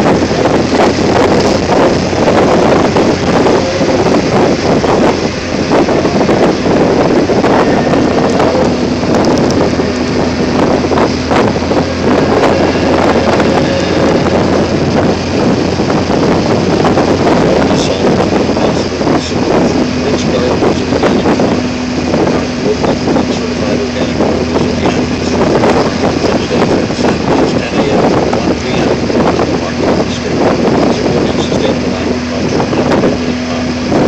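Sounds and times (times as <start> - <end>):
car engine and tyre noise: 0.0 - 34.0
wind buffeting microphone: 0.0 - 34.0.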